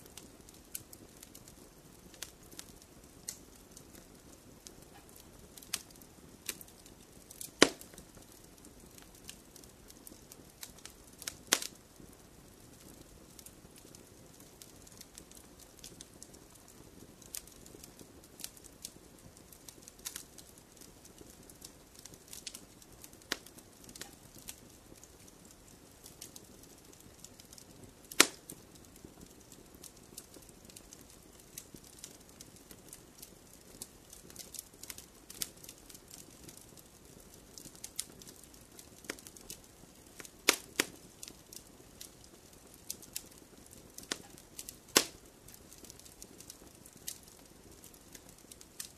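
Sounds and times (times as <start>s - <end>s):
fire flames rumbling: 0.0s - 48.9s
logs crackling and popping: 0.0s - 48.9s.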